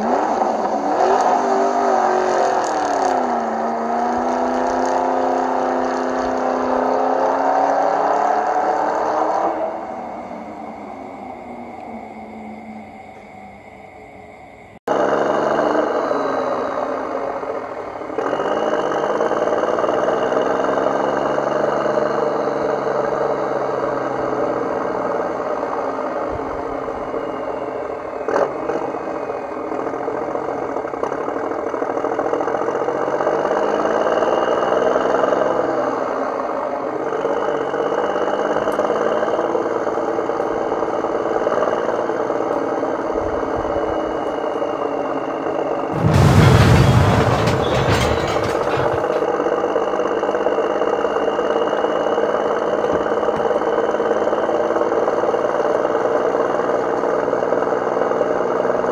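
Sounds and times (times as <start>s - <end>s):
vehicle engine revving: 0.0s - 11.0s, 14.9s - 27.2s, 28.2s - 58.9s.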